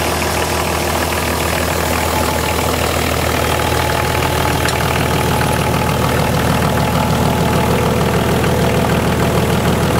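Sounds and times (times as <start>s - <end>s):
diesel engine running: 0.0s - 9.9s.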